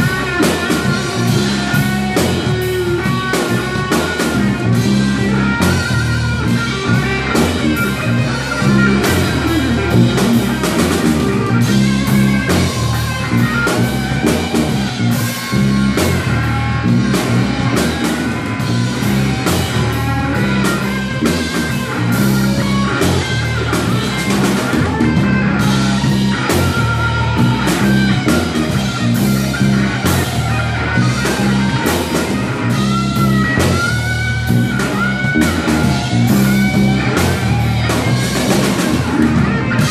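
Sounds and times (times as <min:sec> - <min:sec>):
bass guitar: 0:00.0 - 0:39.9
drum kit steady beat: 0:00.0 - 0:39.9
electric guitar bending notes: 0:00.0 - 0:39.9.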